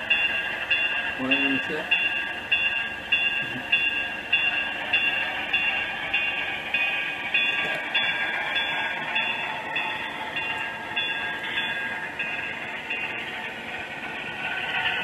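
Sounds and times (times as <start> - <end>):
model train rumbling: 0.0 - 15.0.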